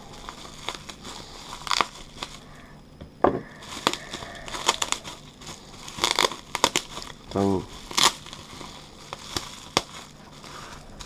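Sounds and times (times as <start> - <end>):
plastic packaging crinkling: 0.0 - 2.7, 3.4 - 11.0.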